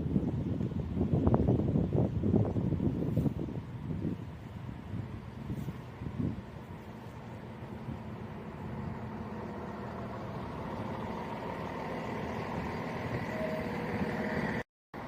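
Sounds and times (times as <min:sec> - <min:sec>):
train diesel engines throbbing: 0:00.0 - 0:15.0.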